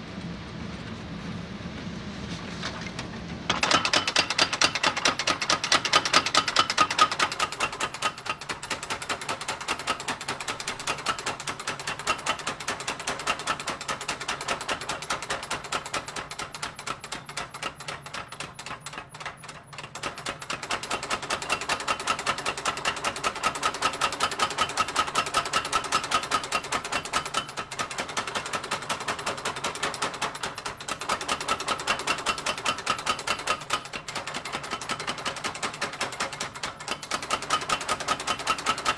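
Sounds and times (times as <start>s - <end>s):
machinery mechanical clatter: 2.3s - 38.9s.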